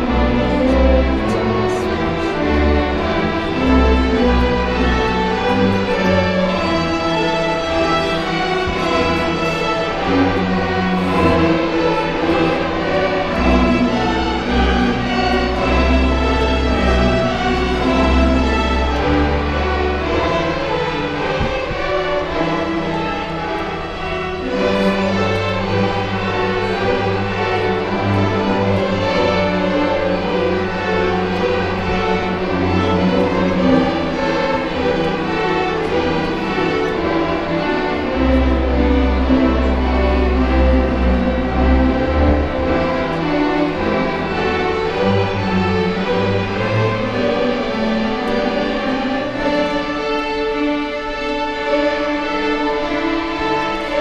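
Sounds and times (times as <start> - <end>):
sustained string chords: 0.0 - 54.0.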